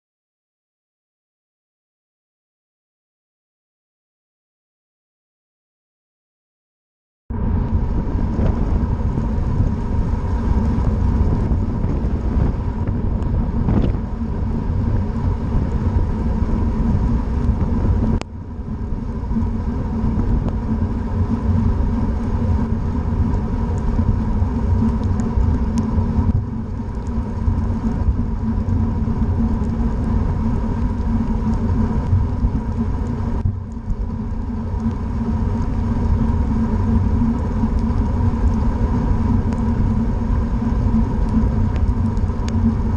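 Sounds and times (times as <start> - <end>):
steady hum: 7.3 - 42.9
wind rumbling on microphone: 7.3 - 42.9.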